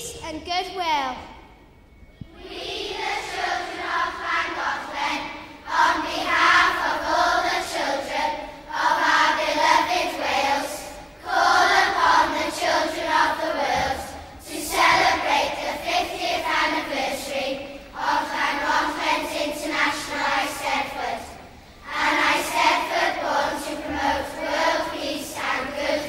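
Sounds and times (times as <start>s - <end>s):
children's choir singing: 2.2s - 26.0s.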